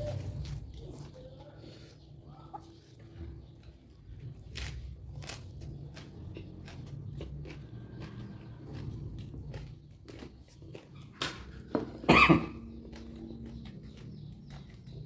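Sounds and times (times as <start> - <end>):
crunching raw vegetables: 0.0 - 15.0.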